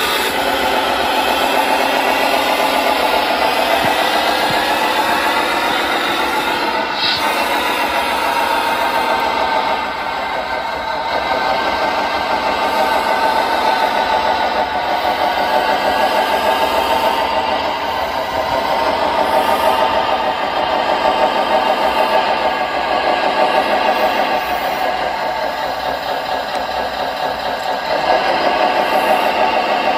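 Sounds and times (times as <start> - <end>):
model vehicle engines running: 0.0 - 29.9.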